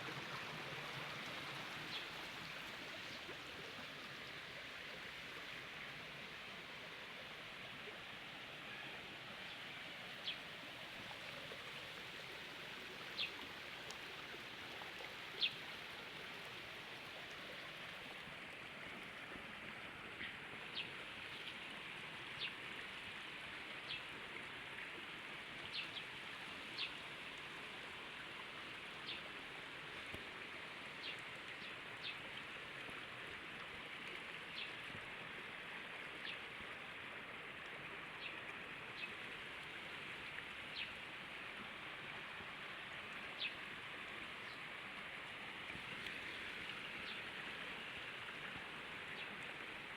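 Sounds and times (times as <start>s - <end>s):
running water flowing: 0.0s - 49.9s.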